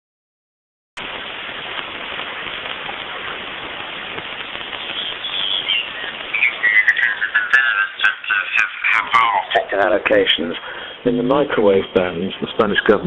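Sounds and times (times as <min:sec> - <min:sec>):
radio static hiss: 0:01.0 - 0:13.0.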